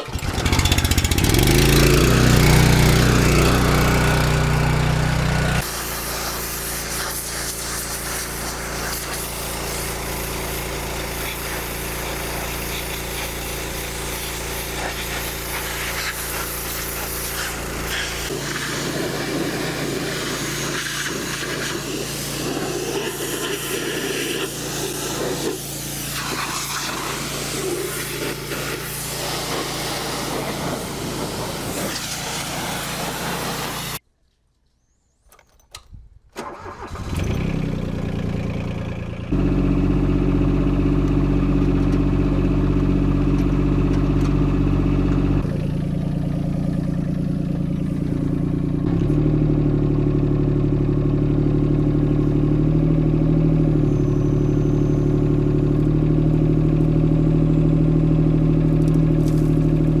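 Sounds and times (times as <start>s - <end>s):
diesel engine running: 0.0s - 34.0s, 36.6s - 60.0s.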